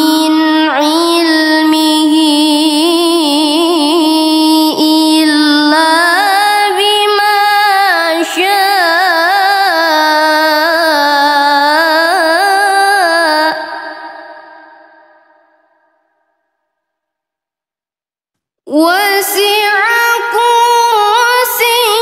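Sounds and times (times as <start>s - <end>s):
woman reciting melodically: 0.0s - 15.2s, 18.7s - 22.0s.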